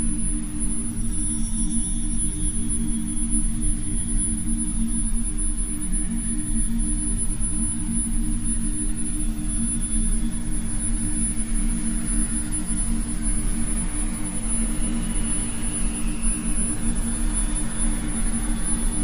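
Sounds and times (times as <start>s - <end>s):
low hum tones: 0.0s - 19.0s.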